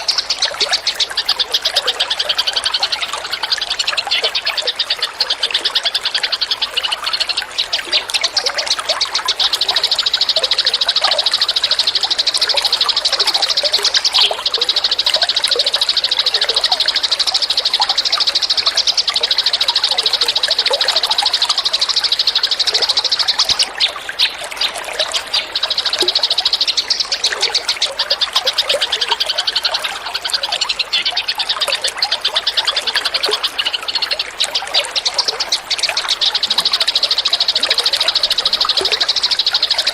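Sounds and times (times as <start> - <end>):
songbird high-pitched trill: 0.0 - 39.9
water trickling: 0.0 - 39.9.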